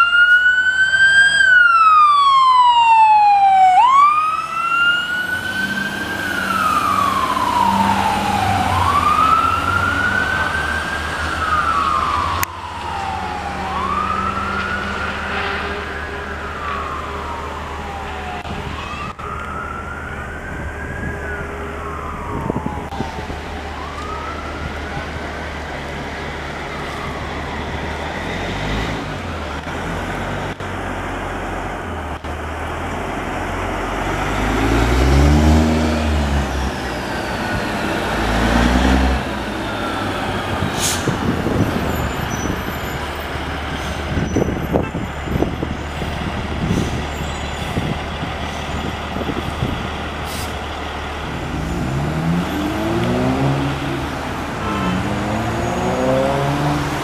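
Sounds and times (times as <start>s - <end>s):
fire engine siren wailing: 0.0s - 29.7s, 33.2s - 57.0s
truck engine rumble: 0.0s - 57.0s.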